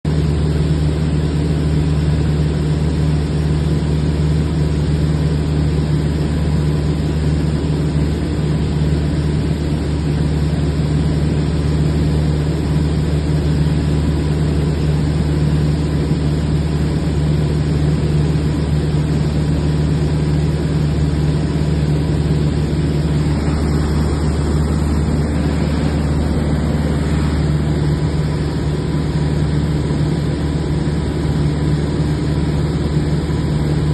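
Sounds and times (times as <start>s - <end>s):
light aircraft engine droning: 0.1s - 33.9s.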